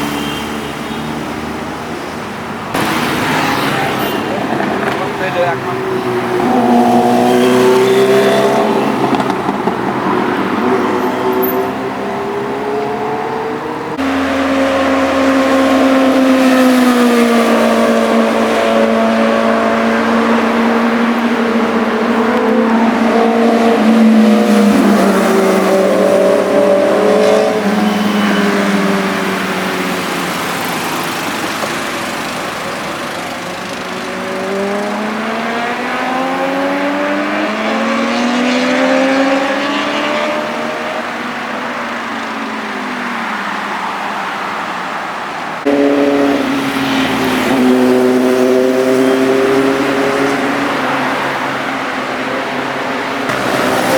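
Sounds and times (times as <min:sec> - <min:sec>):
motorcycle engines accelerating past: 0:00.0 - 0:41.8, 0:45.6 - 0:53.9.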